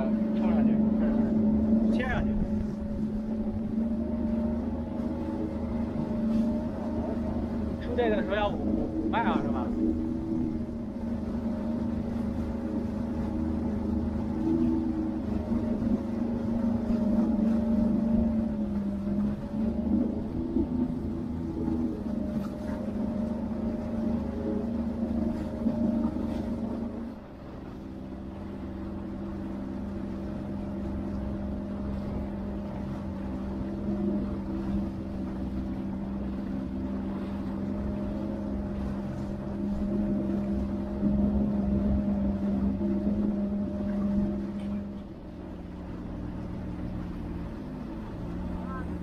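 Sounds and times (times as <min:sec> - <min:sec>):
jet ski engine running: 0:00.0 - 0:49.0.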